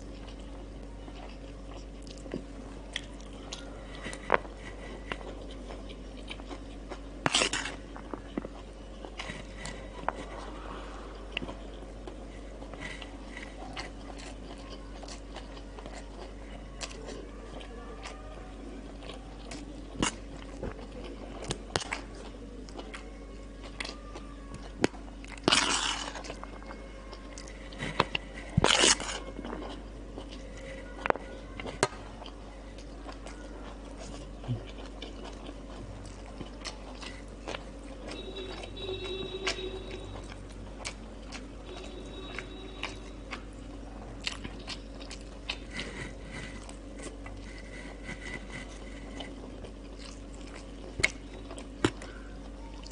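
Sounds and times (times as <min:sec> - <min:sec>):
chewing crunchy food: 0:00.0 - 0:52.9.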